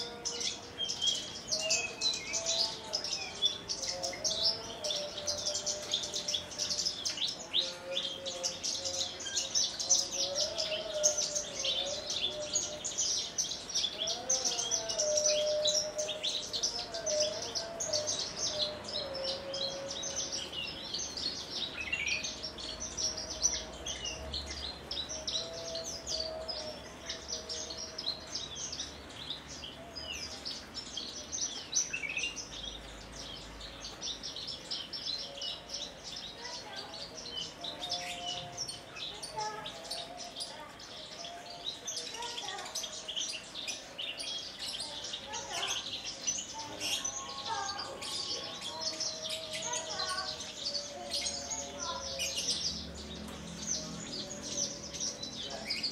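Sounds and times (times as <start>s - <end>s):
bird singing rapid chirps and trills: 0.0s - 55.9s.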